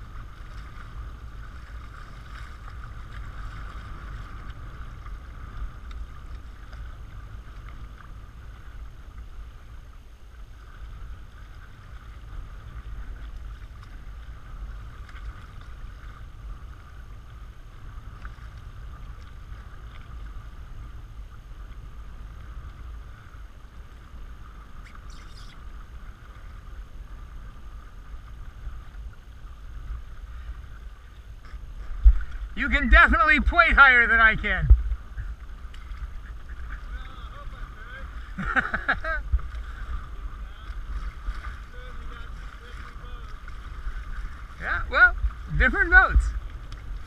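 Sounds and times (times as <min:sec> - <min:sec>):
water rushing along hull: 0:00.0 - 0:47.0
wind rumble on microphone: 0:00.0 - 0:47.0.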